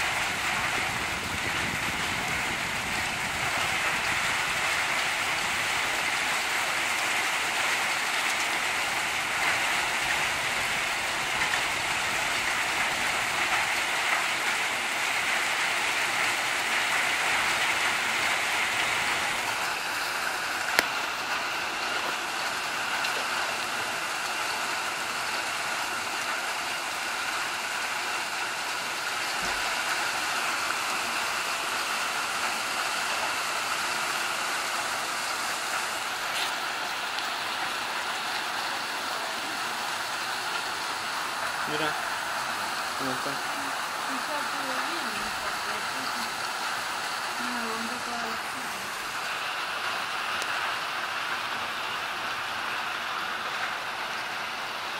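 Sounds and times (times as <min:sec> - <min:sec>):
hail ticks: 0:00.0 - 0:54.9
heavy rain and hail pouring: 0:00.0 - 0:54.9.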